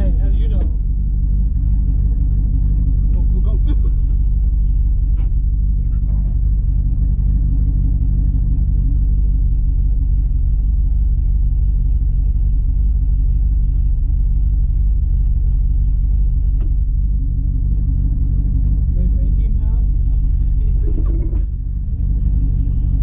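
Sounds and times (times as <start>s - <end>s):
pickup engine and road drone: 0.0s - 23.0s.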